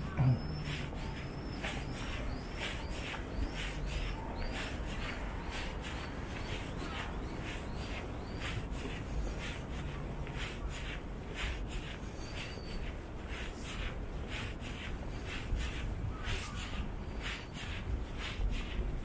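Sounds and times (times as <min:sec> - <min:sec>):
footsteps on stone paving: 0:00.0 - 0:19.0
low street rumble: 0:00.0 - 0:19.0.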